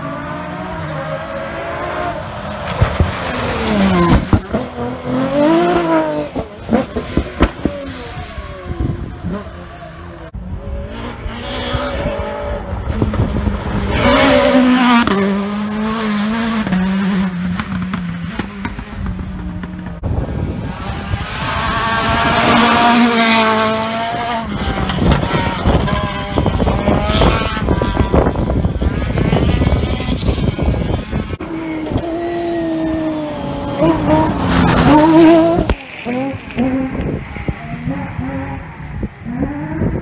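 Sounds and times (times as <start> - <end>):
rally cars revving past: 0.0 - 40.0.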